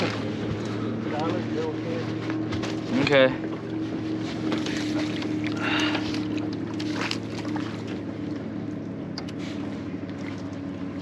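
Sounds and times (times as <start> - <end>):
electric trolling motor humming: 0.0 - 11.0.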